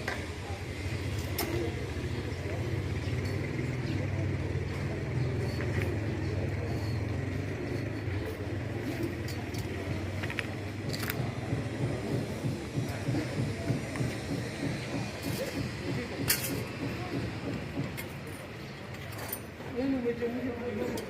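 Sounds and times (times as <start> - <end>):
engine running with low hum: 0.0 - 19.6.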